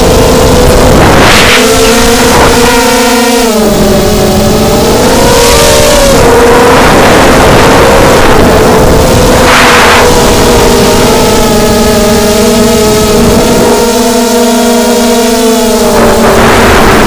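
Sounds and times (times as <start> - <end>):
wind gusts on microphone: 0.0 - 14.0, 15.7 - 17.0
drone motors whining: 0.0 - 17.0.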